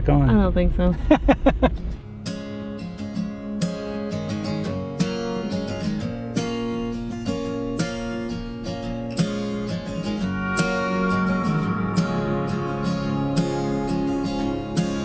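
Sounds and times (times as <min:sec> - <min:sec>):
strummed acoustic guitar chords: 0:01.8 - 0:15.0.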